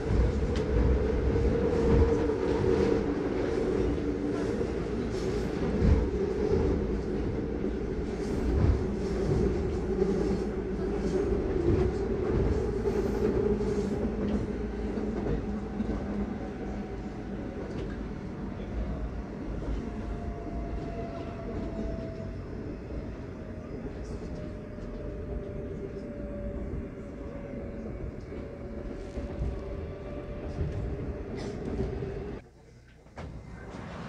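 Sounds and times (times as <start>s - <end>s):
train wheels rumbling: 0.0s - 32.4s.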